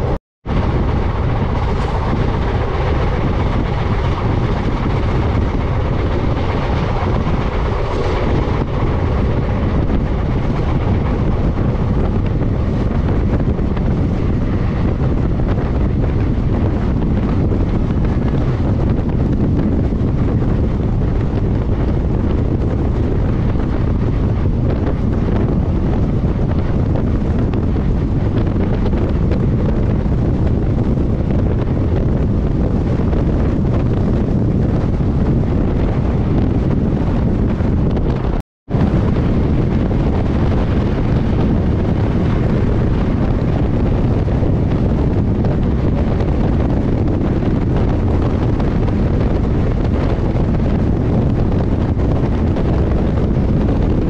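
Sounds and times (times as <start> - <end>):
train coaches rumbling on track: 0.0 - 54.0
wind on microphone: 0.0 - 54.0.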